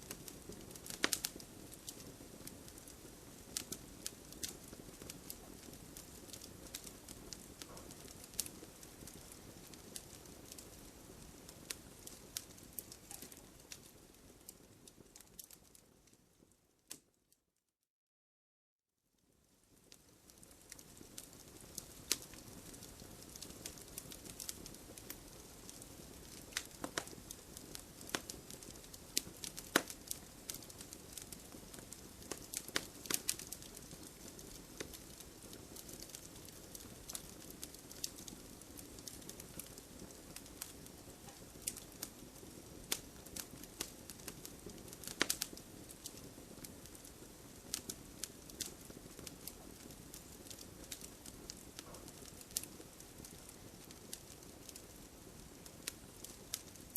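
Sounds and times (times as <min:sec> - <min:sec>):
burning wood popping: 0:00.0 - 0:15.6, 0:20.3 - 0:56.9
low hiss of flames: 0:00.0 - 0:16.5, 0:19.6 - 0:56.9.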